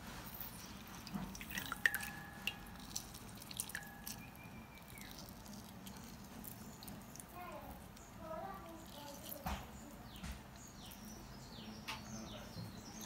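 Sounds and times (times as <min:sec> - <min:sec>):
juice dripping into pot: 0:00.0 - 0:11.9.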